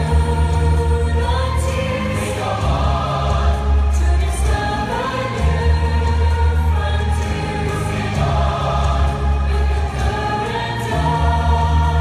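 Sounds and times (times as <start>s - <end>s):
choir singing held notes: 0.0s - 12.0s
orchestral music with deep bass: 0.0s - 12.0s.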